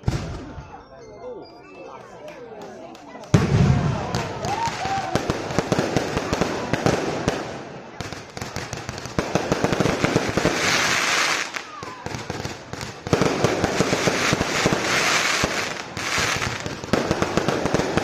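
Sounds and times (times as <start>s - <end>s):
fireworks crackling bangs: 3.3s - 18.0s.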